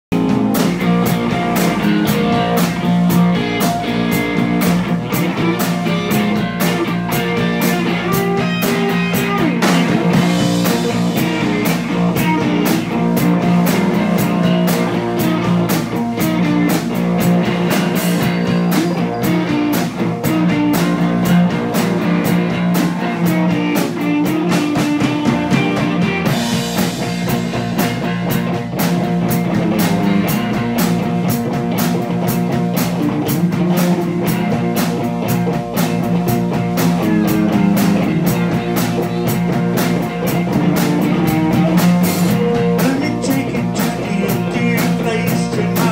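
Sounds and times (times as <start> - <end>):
drum kit beat: 0.1 - 45.9
electric guitars: 0.1 - 45.9.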